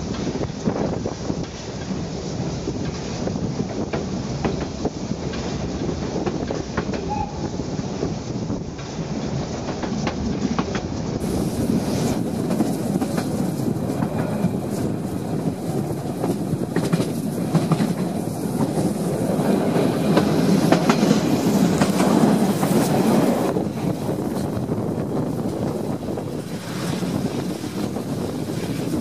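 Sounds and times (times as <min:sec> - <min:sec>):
rail joint clicks: 0:00.0 - 0:29.0
wheels rumbling on rails: 0:00.0 - 0:29.0.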